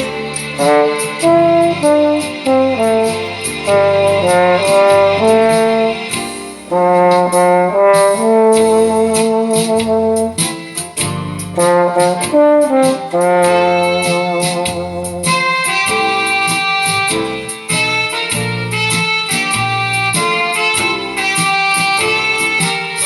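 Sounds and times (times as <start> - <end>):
backing track with steady beat: 0.0 - 23.0
trombone playing slow melody: 0.0 - 23.0.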